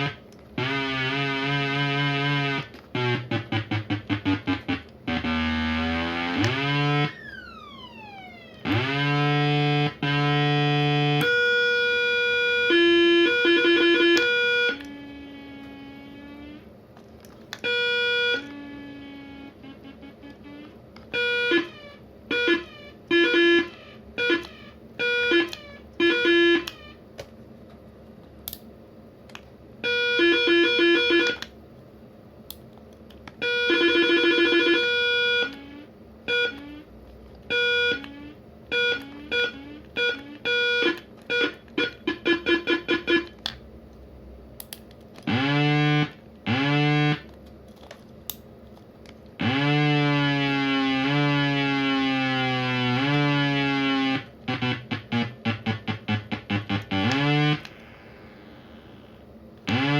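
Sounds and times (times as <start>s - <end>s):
siren beeping and wailing: 0.0s - 16.6s, 17.6s - 27.0s, 29.8s - 31.4s, 33.4s - 36.9s, 37.5s - 43.4s, 45.3s - 47.3s, 49.4s - 59.9s.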